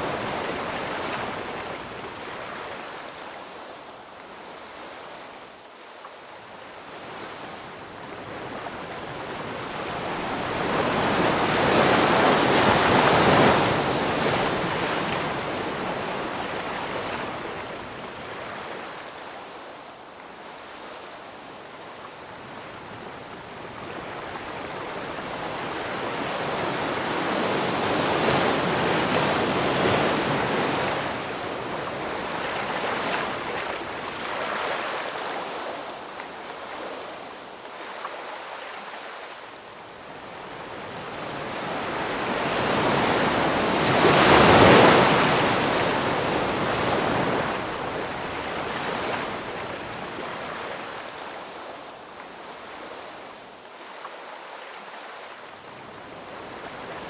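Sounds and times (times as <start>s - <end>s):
ocean waves rushing and washing: 0.0s - 57.0s.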